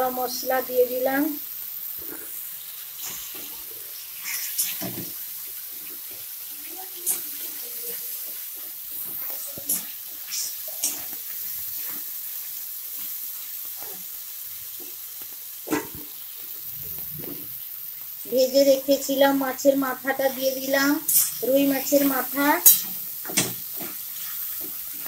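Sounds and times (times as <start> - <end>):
spices sizzling in oil: 0.0 - 25.0.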